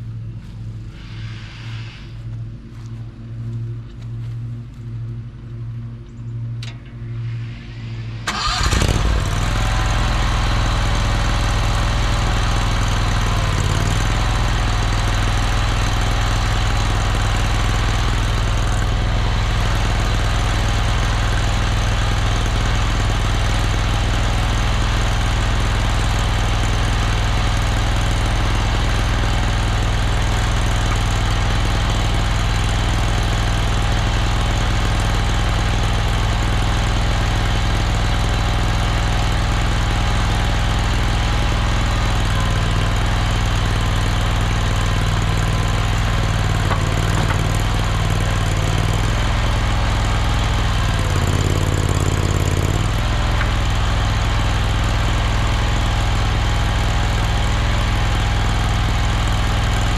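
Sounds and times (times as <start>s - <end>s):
engine cranking and running: 8.2s - 59.9s.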